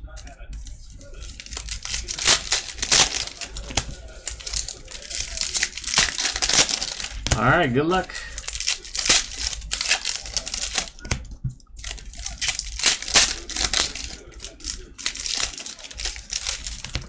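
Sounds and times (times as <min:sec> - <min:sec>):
foil wrappers tearing and crinkling: 0:00.1 - 0:17.0.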